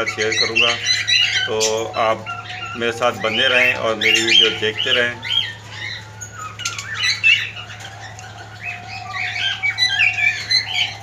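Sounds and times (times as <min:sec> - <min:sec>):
cockatiels chirping and squawking: 0:00.0 - 0:11.0
steady low hum: 0:00.0 - 0:11.0.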